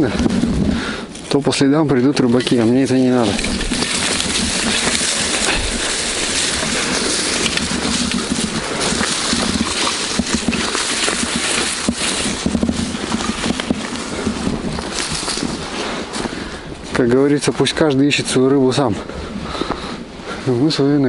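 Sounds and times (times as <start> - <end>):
dry stems crackling and brushing: 0.0 - 19.8
footsteps crunching in snow: 0.0 - 20.5.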